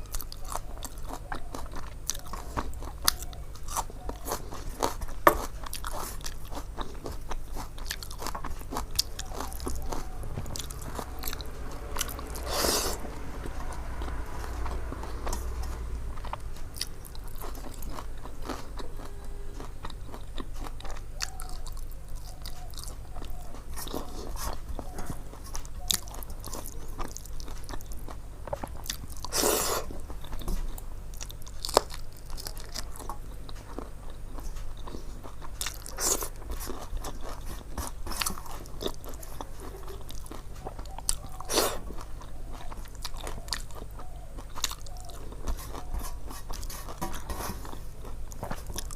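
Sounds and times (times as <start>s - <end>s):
close chewing with crunches: 0.0s - 48.9s
steady low hum: 0.0s - 48.9s.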